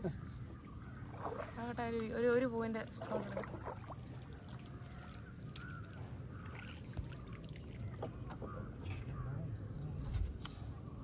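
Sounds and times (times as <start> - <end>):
faint water sounds: 0.0 - 11.0.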